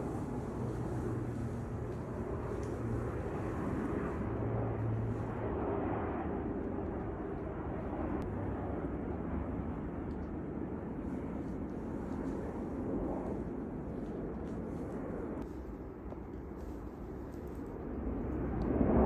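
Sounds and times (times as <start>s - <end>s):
distant airplane engine drone: 0.0s - 19.0s.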